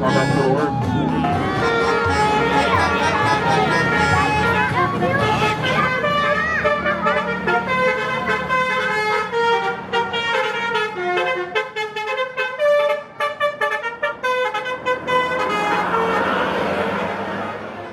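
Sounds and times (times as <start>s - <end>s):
bus musical horn playing tune: 0.0s - 17.9s.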